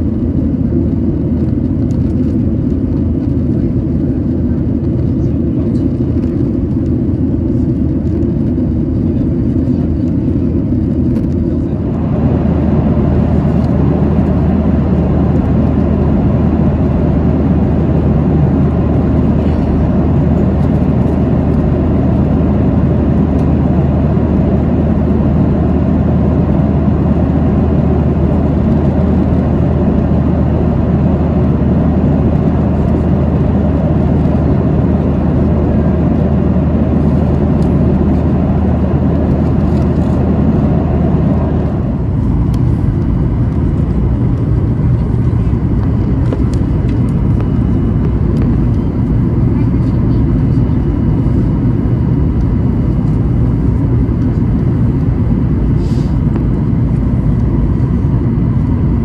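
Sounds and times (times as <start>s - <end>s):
airplane cabin engine hum: 0.0s - 59.0s
rushing air in cabin: 0.0s - 59.0s.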